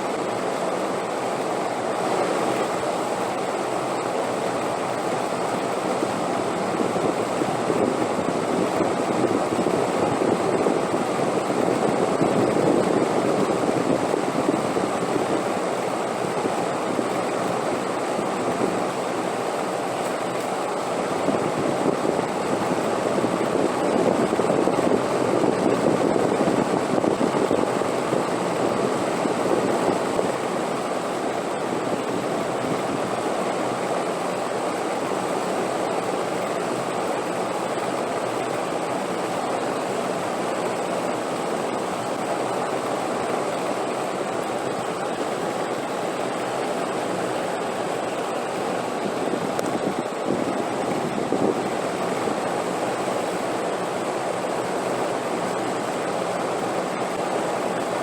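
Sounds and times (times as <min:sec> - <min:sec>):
rushing wind: 0:00.0 - 0:58.0.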